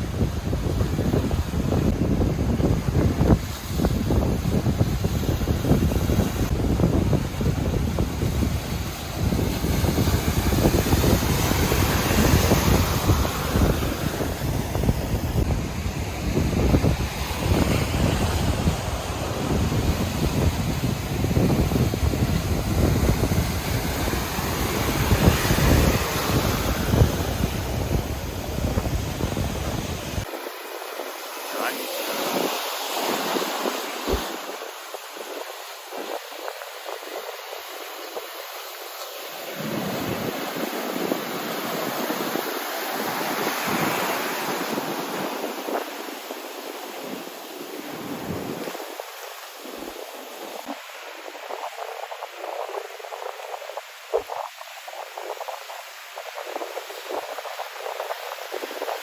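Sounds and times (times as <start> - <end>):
surf washing: 0.0 - 59.0
wind buffeting microphone: 0.0 - 59.0.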